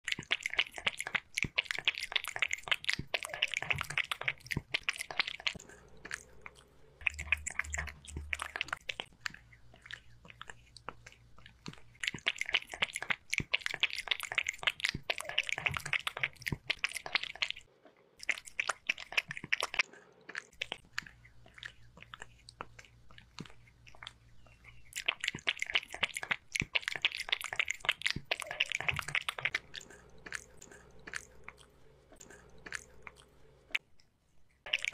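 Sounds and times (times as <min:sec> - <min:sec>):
kitten lapping from bowl: 0:00.0 - 0:33.8.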